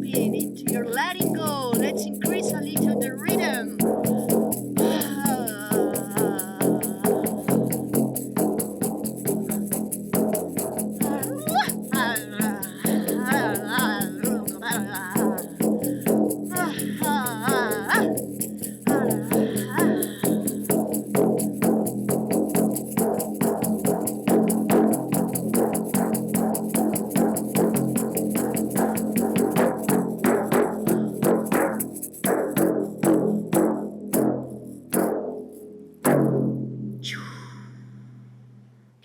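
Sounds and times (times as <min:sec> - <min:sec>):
drum beaten fast: 0:00.0 - 0:33.4.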